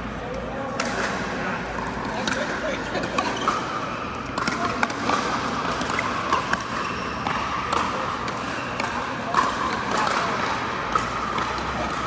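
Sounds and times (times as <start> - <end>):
background hubbub: 0.0 - 12.0
ball bouncing on court: 0.8 - 12.0.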